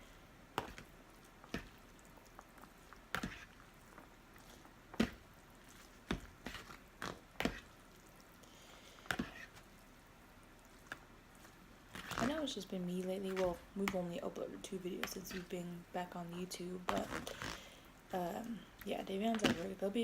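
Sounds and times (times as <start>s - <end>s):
noodles being stirred: 0.0s - 20.0s.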